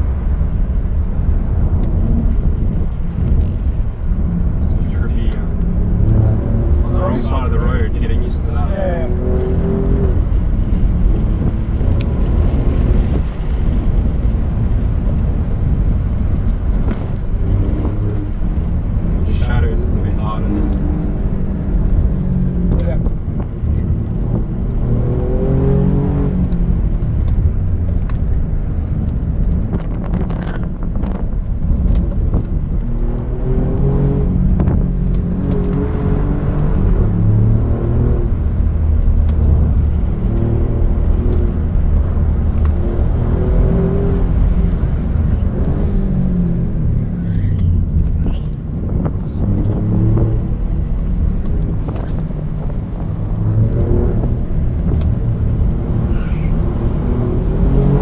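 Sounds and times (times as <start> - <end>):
car engine revving: 0.0 - 58.0
road and tyre noise: 0.0 - 58.0.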